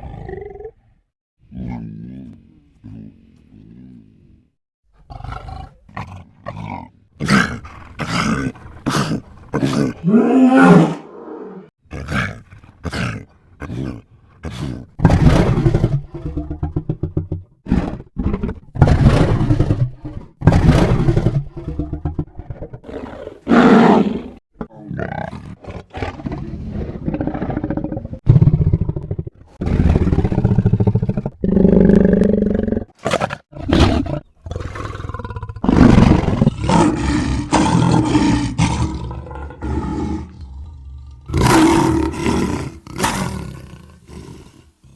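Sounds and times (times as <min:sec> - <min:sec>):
lion roaring and grunting: 0:00.0 - 0:00.8, 0:01.5 - 0:44.9.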